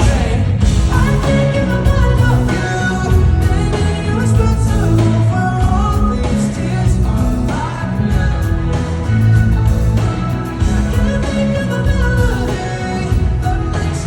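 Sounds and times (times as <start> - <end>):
live pop band playing: 0.0 - 14.0
man singing: 0.0 - 14.0.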